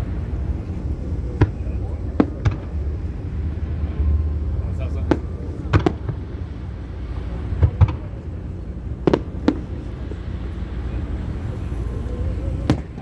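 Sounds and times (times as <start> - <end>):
fireworks bangs: 0.0 - 13.0
steady low rumble: 0.0 - 13.0.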